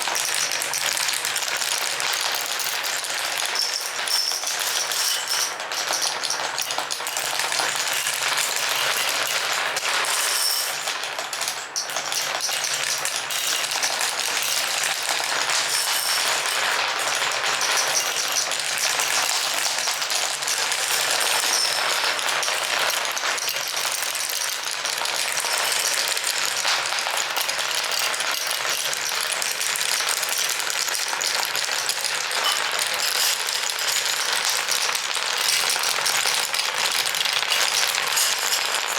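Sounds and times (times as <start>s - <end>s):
marbles rattling down a marble run: 0.0s - 38.9s.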